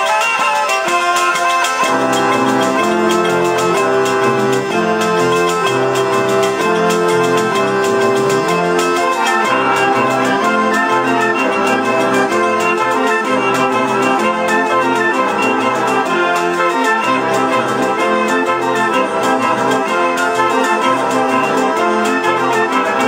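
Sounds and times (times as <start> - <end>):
bagpipes playing folk tune: 0.0 - 23.0
frame drum beat: 0.0 - 23.0
shawm playing: 0.0 - 23.0.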